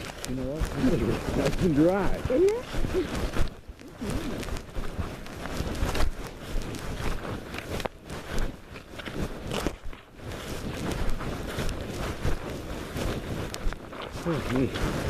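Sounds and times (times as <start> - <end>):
footsteps on the ground: 0.0 - 15.0
rustling handling noise: 0.0 - 15.0.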